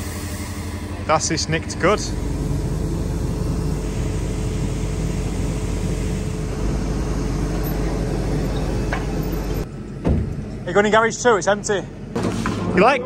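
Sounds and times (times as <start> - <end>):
constant whine: 0.0 - 13.0.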